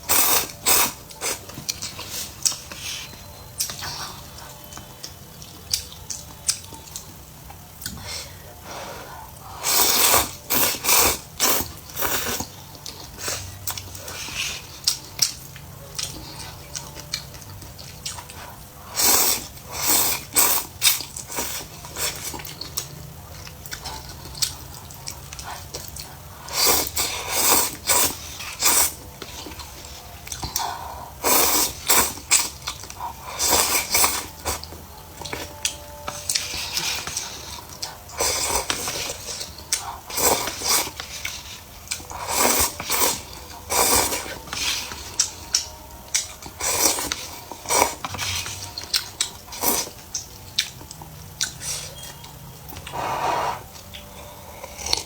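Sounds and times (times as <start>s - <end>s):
person chewing food: 0.0s - 8.1s, 9.2s - 55.0s.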